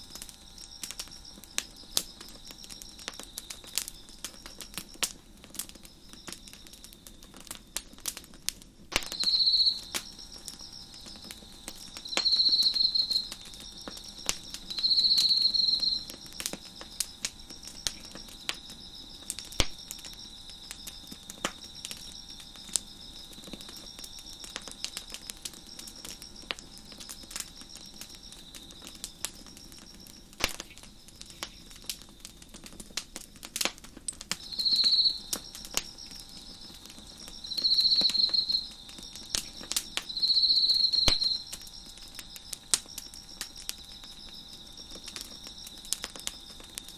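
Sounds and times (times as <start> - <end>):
loud pulsing insect trills: 0.0 - 7.6, 8.9 - 33.6, 34.2 - 46.9
crickets chirping: 0.0 - 46.9
wood fire crackling and popping: 0.0 - 46.9.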